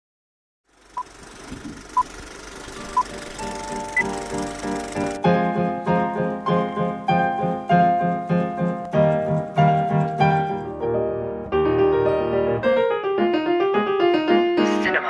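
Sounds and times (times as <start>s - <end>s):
solo piano music: 2.7s - 15.0s.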